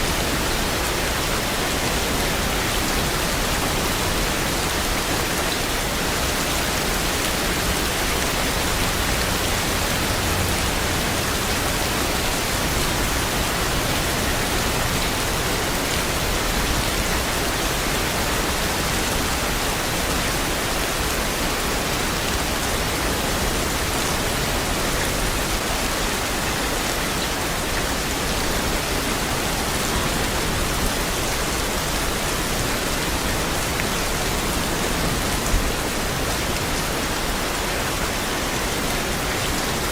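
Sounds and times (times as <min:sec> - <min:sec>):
dense rain falling: 0:00.0 - 0:39.9.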